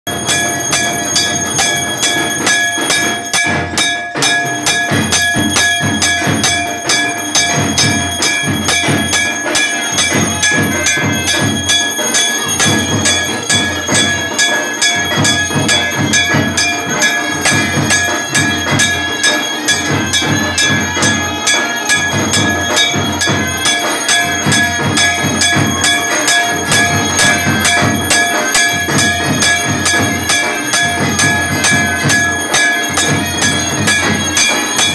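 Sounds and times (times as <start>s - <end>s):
fast drum beats: 0.1s - 34.9s
metal bells and gongs ringing: 0.1s - 34.9s.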